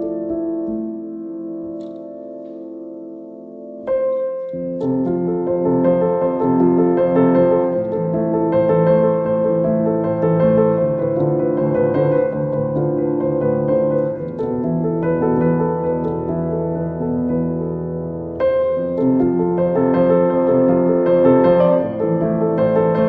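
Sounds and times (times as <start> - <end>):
slow calm piano music: 0.0 - 23.0.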